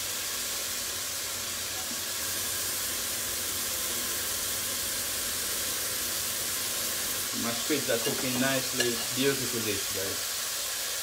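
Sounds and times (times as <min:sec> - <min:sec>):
mushrooms sizzling in a pot: 0:00.0 - 0:11.0.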